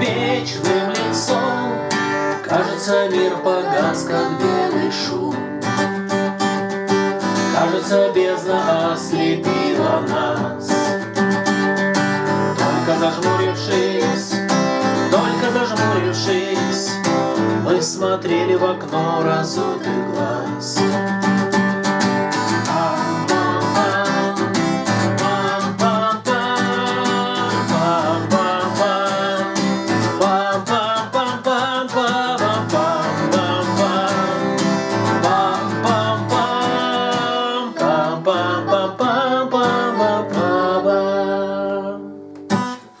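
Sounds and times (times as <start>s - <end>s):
acoustic guitar playing: 0.0s - 43.0s.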